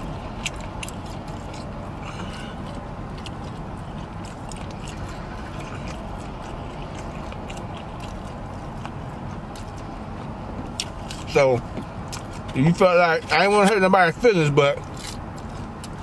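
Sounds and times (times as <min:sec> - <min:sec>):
low car interior hum: 0:00.0 - 0:16.0
man chewing food: 0:00.0 - 0:16.0.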